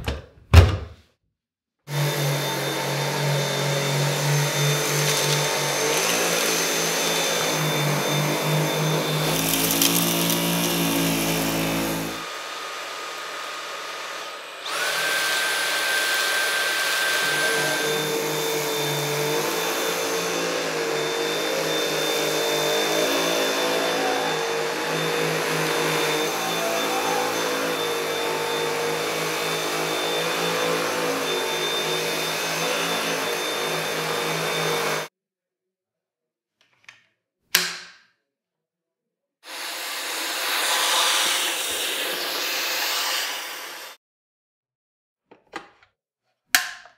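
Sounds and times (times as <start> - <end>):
cordless vacuum whining: 1.9 - 35.1, 39.5 - 44.0.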